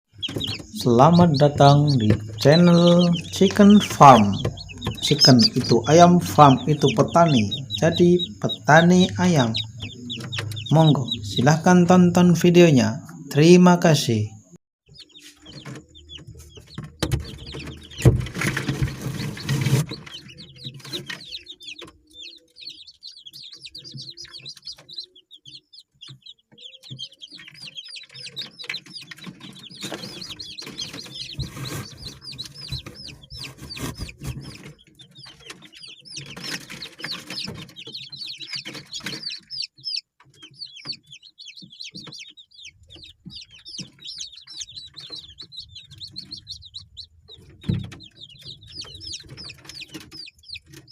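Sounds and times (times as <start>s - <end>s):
chickens clucking: 0.1s - 50.9s.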